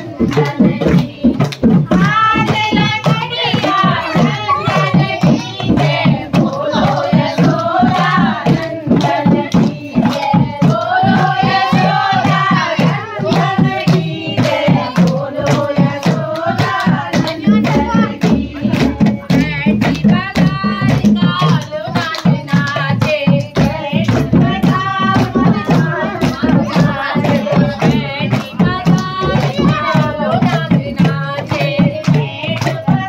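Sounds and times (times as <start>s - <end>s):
hand drum beats: 0.0s - 33.0s
women singing folk song: 0.0s - 33.0s
hand clapping: 0.2s - 33.0s.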